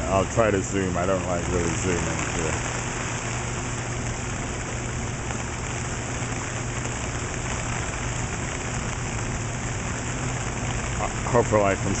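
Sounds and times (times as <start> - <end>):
constant low hum: 0.0 - 12.0
heavy rain drumming on umbrella: 0.0 - 12.0.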